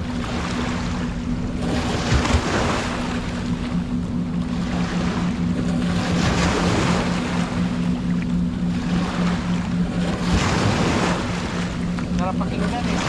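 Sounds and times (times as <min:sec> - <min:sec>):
low motor hum: 0:00.0 - 0:13.0
sea waves washing in: 0:00.0 - 0:13.0.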